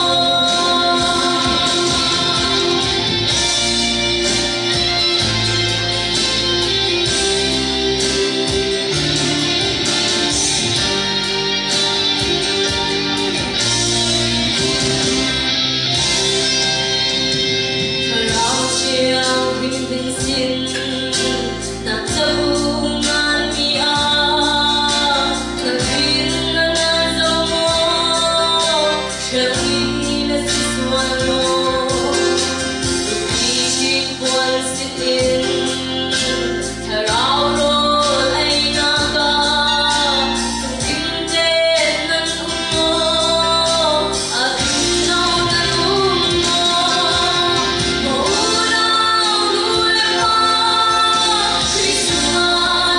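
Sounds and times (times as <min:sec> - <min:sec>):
woman singing into microphone: 0:00.0 - 0:16.7, 0:17.7 - 0:52.9
instrumental backing music: 0:00.0 - 0:52.9.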